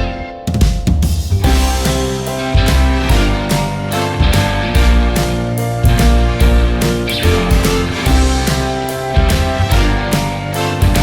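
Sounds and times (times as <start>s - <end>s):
rock instrumental music: 0.0s - 11.0s.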